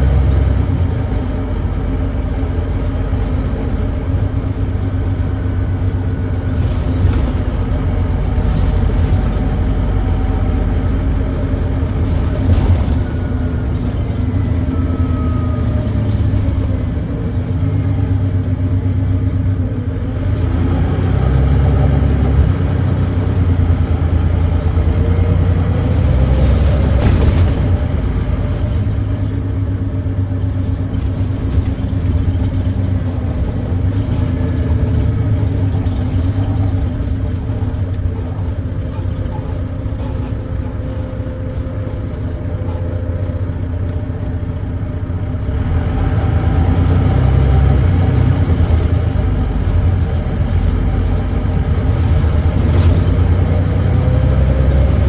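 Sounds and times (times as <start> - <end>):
diesel bus engine drone: 0.0 - 55.0.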